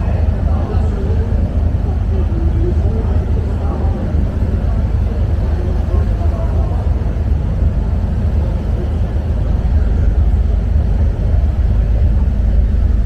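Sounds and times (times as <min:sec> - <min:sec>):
ferry engine low rumble: 0:00.0 - 0:13.0.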